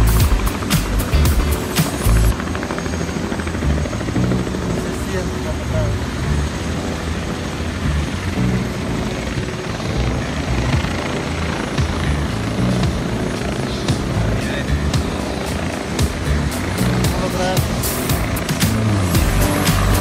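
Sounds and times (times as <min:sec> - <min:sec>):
helicopter rotor beating: 0:00.0 - 0:20.0.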